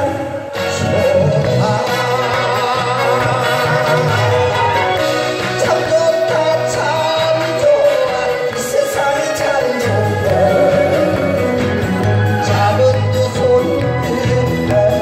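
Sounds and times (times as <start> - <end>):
bass: 0.0 - 15.0
man singing into microphone: 0.0 - 15.0
recorded backing track: 0.0 - 15.0.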